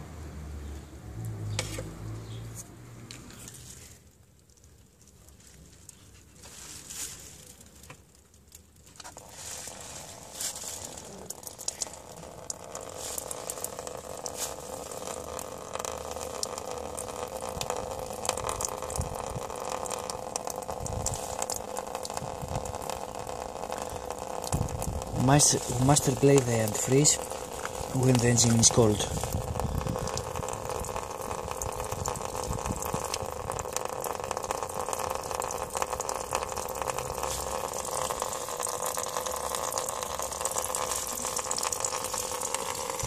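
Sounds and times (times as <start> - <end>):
coolant draining in a stream: 3.0 - 43.0.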